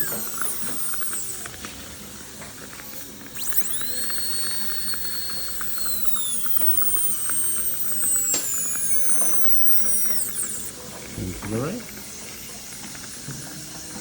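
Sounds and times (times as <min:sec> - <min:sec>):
dental drill whining: 0:00.0 - 0:14.0.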